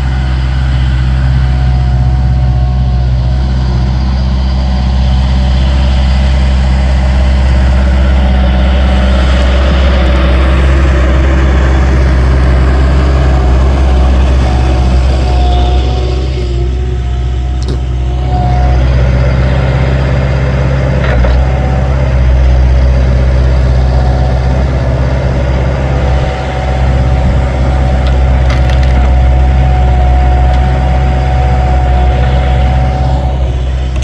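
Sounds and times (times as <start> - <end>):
diesel engines running: 0.0 - 34.0.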